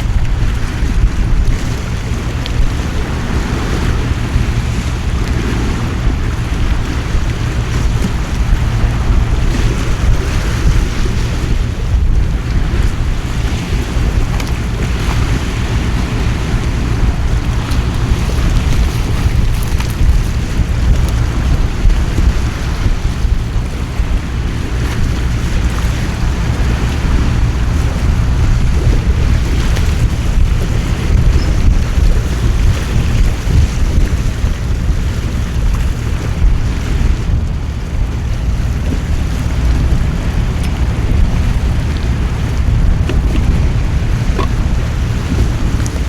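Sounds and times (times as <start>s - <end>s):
gusting wind: 0.0s - 46.0s
wind buffeting microphone: 0.0s - 46.0s.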